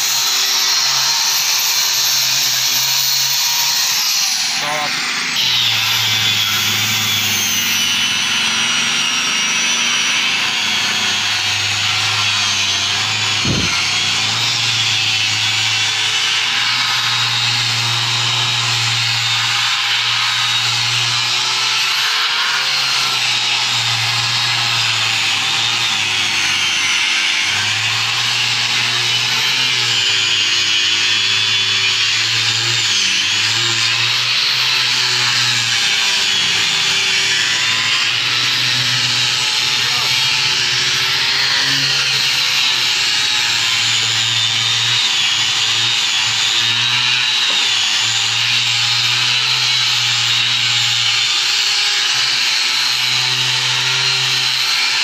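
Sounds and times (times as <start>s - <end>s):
angle grinder sanding wood: 0.0s - 55.0s.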